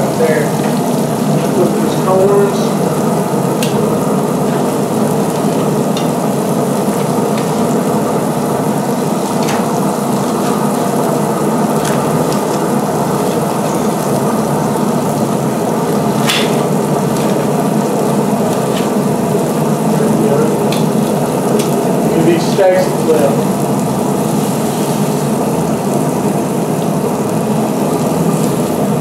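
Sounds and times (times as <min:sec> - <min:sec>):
food sizzling on a grill: 0:00.0 - 0:29.0.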